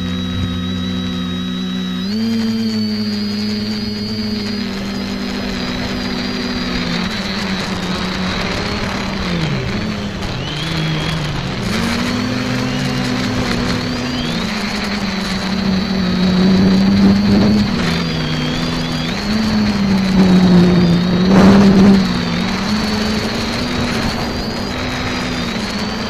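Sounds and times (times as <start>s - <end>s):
quadcopter motors humming: 0.0s - 26.0s.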